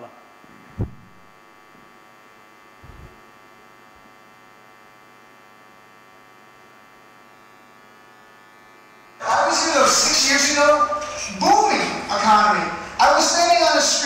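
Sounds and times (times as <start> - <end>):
buzzy mains hum: 0.0 - 14.0.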